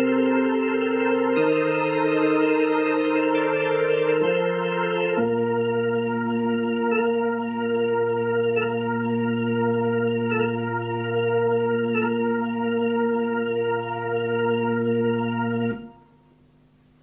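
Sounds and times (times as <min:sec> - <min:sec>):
organ keyboard chord: 0:00.0 - 0:17.0.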